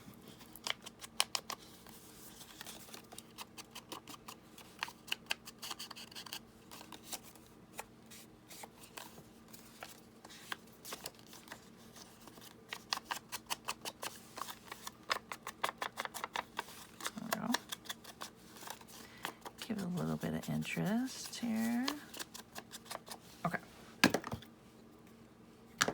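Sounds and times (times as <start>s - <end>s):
paper crinkling and tapping: 0.2s - 7.9s, 8.6s - 23.2s.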